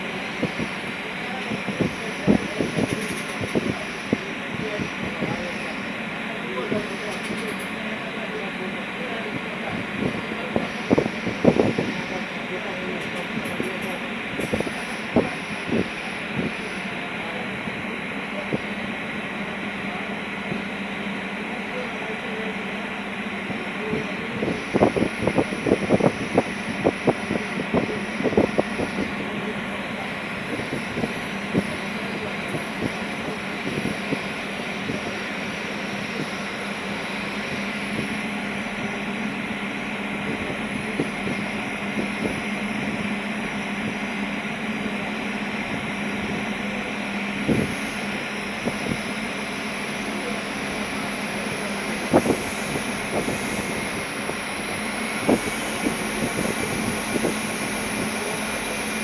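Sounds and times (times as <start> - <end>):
ferry engine humming: 0.0 - 59.0.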